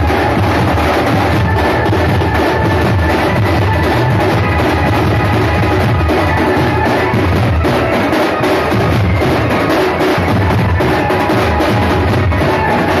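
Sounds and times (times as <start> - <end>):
dhol drums beating: 0.0 - 13.0.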